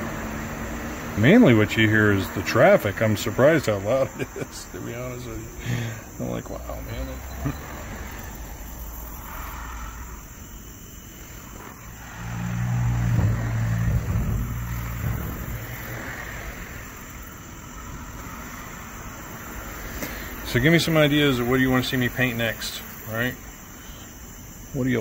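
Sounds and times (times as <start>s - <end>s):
vehicle passing: 0.0s - 23.0s
background traffic noise: 0.0s - 25.0s.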